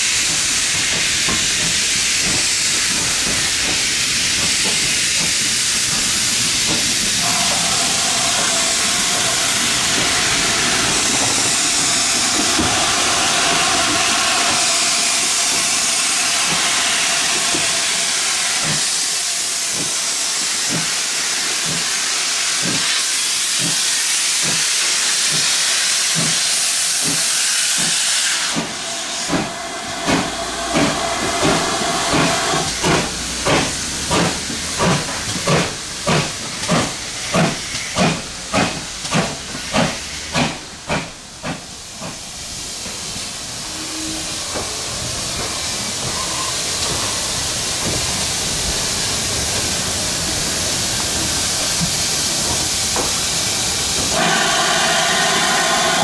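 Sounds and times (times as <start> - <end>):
loud hiss of steam: 0.0 - 56.0
steam locomotive exhaust beats: 0.0 - 56.0.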